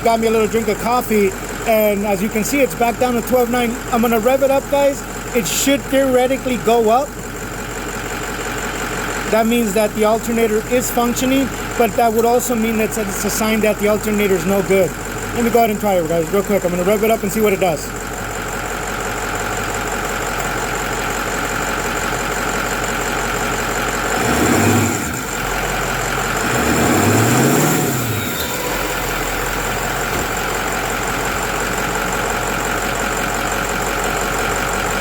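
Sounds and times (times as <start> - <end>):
diesel engine idling and revving: 0.0 - 35.0.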